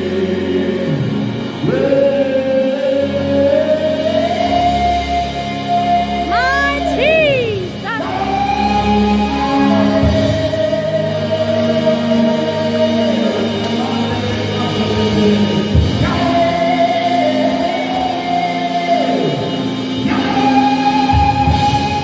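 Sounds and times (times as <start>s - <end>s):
sustained backing music: 0.0s - 22.0s
worship singing: 0.0s - 22.0s.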